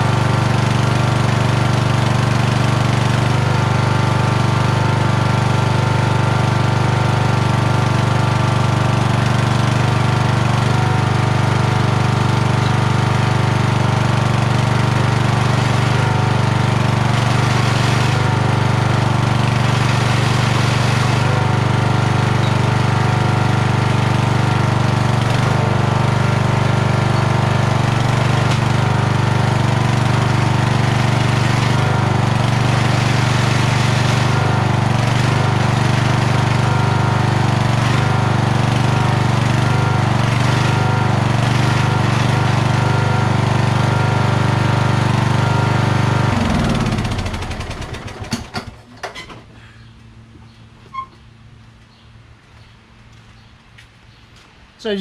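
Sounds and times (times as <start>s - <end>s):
lawn tractor engine running: 0.0s - 49.4s.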